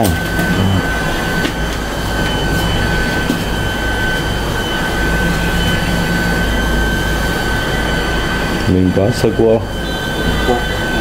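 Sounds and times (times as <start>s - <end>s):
high-pitched whine: 0.0s - 11.0s
machine drone low rumble: 0.0s - 11.0s.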